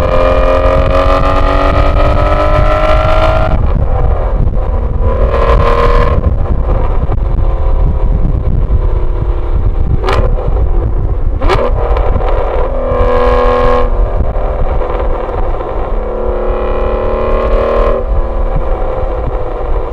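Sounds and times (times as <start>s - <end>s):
car engine revving: 0.0s - 19.9s
exhaust cracks: 0.0s - 19.9s.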